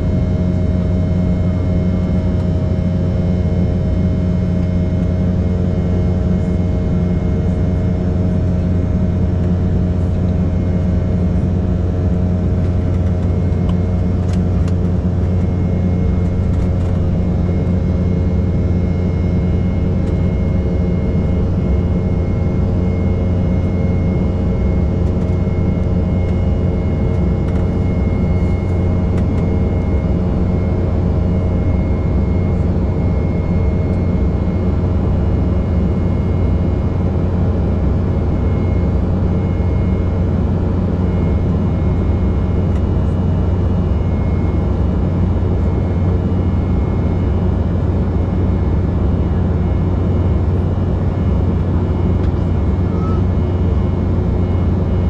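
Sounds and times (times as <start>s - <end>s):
jet engines droning: 0.0s - 55.0s
low hum: 0.0s - 55.0s
faint high whine: 0.1s - 55.0s.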